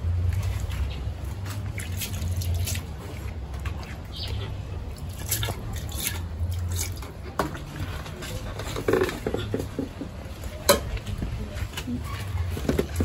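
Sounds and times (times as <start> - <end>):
liquid squelching and dripping: 0.0 - 13.0.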